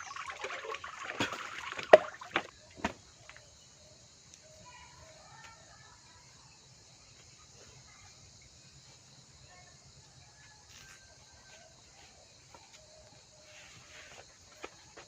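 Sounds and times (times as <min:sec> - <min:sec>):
faint bird chirps: 0:02.6 - 0:14.9.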